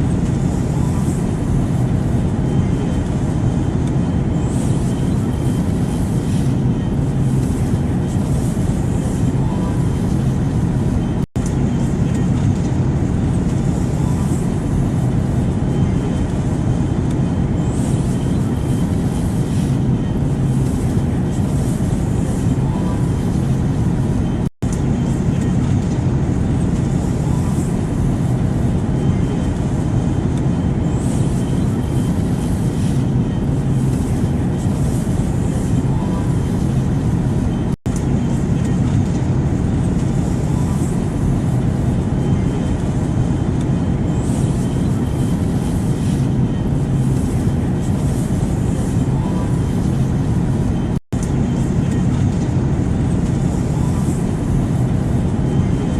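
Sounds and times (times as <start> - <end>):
airplane drone: 0.0 - 55.9.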